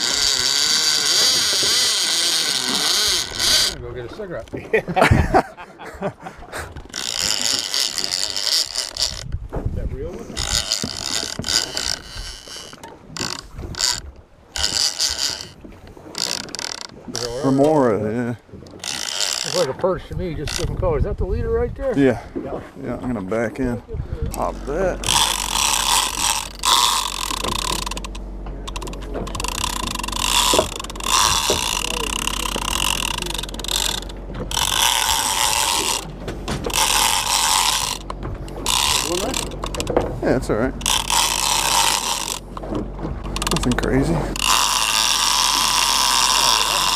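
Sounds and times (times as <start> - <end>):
fishing reel cranking: 0.0 - 4.6, 6.6 - 9.4, 10.2 - 20.9, 24.3 - 46.9.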